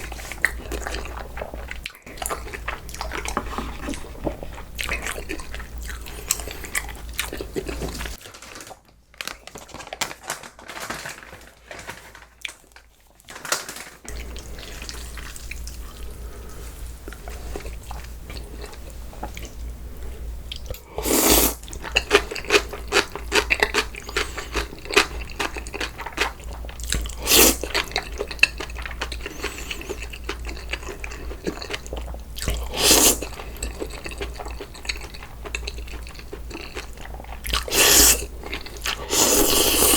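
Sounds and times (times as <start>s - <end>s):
chewing and crunching noodles: 0.0s - 10.9s, 11.8s - 39.9s.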